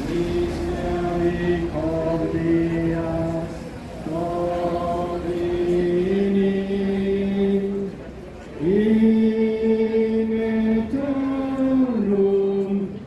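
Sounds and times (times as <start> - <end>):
crowd singing a slow hymn: 0.0 - 13.0.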